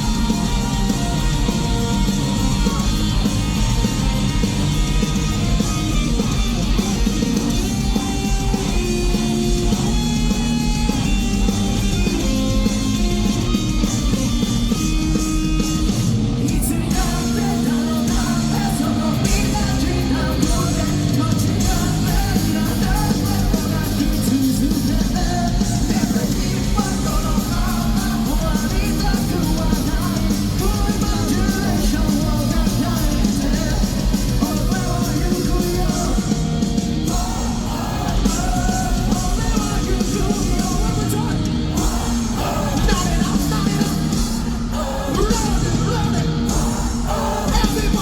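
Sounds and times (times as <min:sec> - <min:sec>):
bass guitar: 0:00.0 - 0:48.0
electric guitars: 0:00.0 - 0:48.0
man singing lead vocals: 0:00.0 - 0:48.0.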